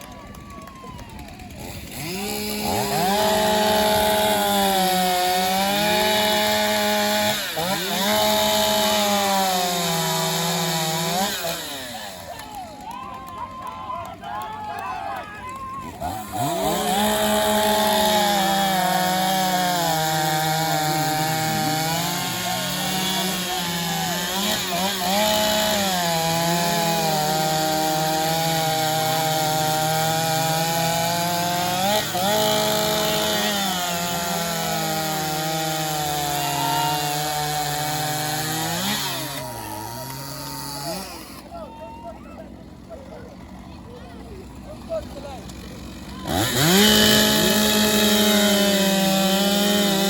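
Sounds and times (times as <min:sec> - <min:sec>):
chainsaw cutting wood: 0:00.0 - 0:13.3, 0:15.5 - 0:41.7, 0:42.5 - 0:50.0.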